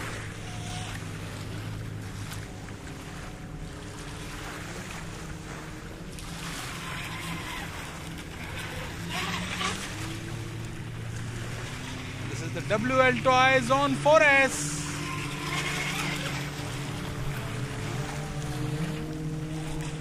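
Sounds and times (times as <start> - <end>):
rc speedboat speeding: 0.0 - 20.0
small waves lapping sand: 0.0 - 20.0.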